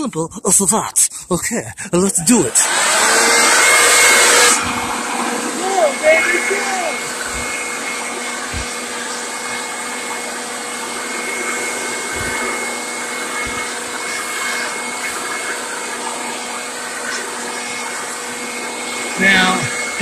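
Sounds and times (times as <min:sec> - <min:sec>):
leaf blower running: 0:02.2 - 0:20.0.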